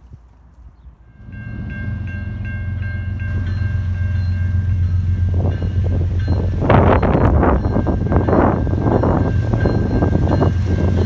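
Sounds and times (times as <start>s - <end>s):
diesel locomotive rumbling: 0.9s - 11.0s
train rushing noise: 0.9s - 11.0s
crossing bell ringing: 1.0s - 11.0s.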